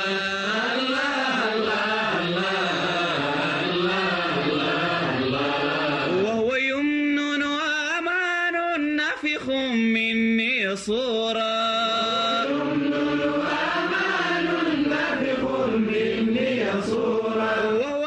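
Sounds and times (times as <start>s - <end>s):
man singing with vibrato: 0.0s - 18.0s.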